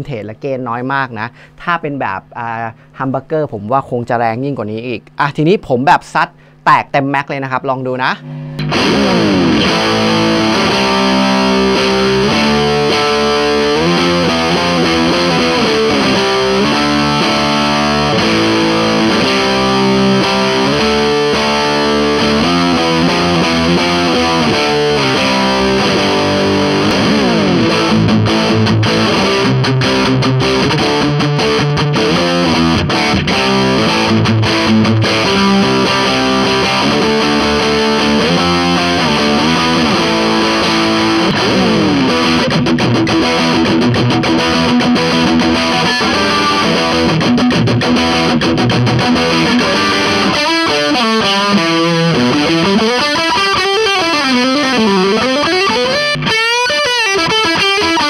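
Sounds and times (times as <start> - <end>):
distorted electric guitar: 7.4 - 58.0.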